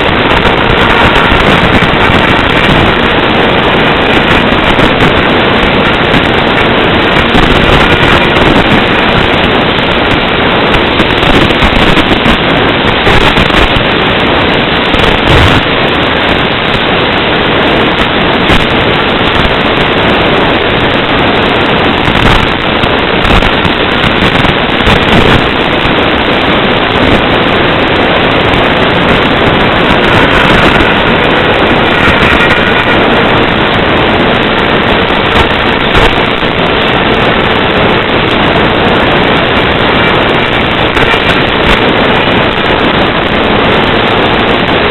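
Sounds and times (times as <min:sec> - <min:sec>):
crackling static hiss: 0:00.0 - 0:44.9.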